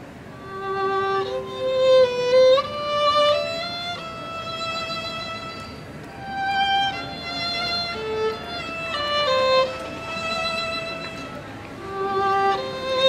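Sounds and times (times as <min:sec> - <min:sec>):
solo violin melody: 0:00.0 - 0:13.0.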